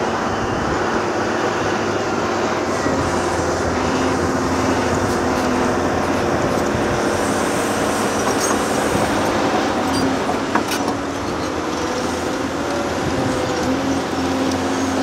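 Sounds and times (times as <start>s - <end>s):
heavy diesel machines running: 0.0s - 15.0s.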